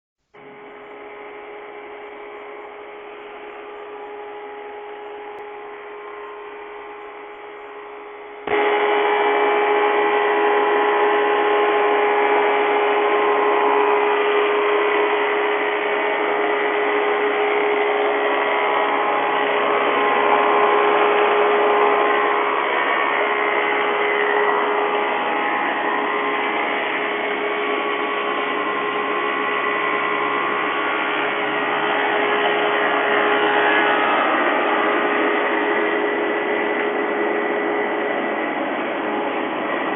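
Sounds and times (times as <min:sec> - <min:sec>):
planer-molder machine humming: 0:00.4 - 0:39.9.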